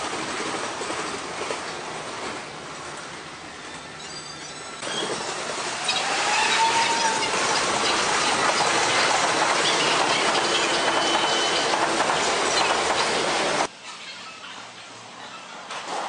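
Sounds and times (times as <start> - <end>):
train wheels rushing on rails: 0.0 - 13.7.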